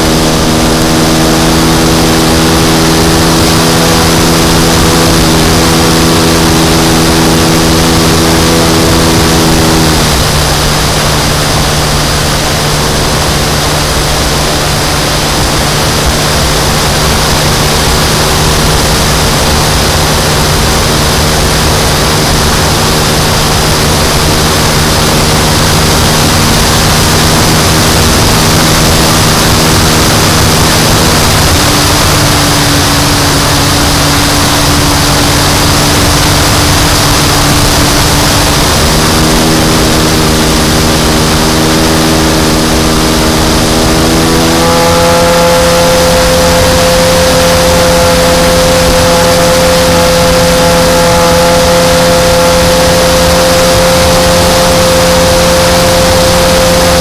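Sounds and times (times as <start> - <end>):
model airplane engine and propeller: 0.0 - 57.0.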